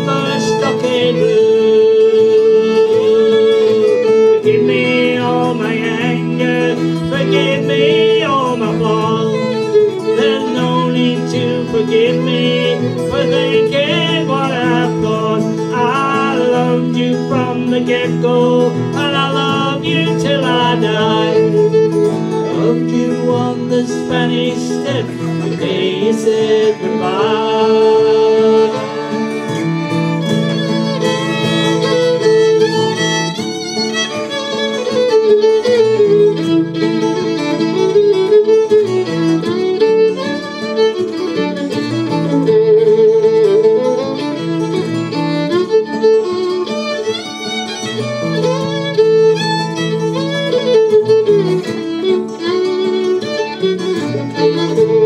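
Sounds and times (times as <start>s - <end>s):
fiddle playing melody: 0.0s - 55.0s
strummed acoustic guitar: 0.0s - 55.0s.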